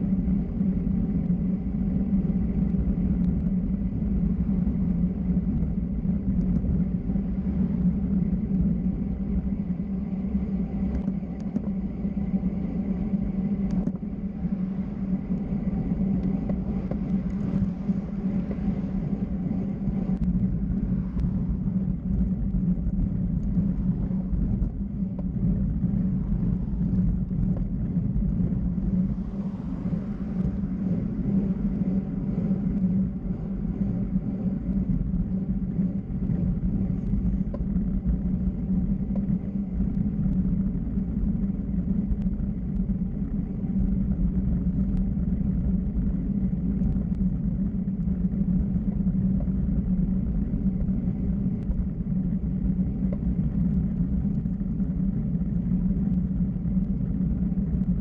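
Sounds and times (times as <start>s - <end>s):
low road rumble: 0.0s - 58.0s
wind noise: 0.0s - 58.0s.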